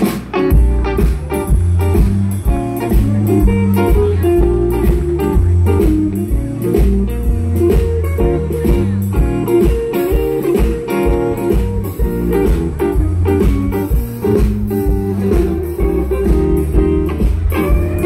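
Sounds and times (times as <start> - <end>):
bass line: 0.0 - 18.0
drums steady beat: 0.0 - 18.0
electric blues band playing: 0.0 - 18.0.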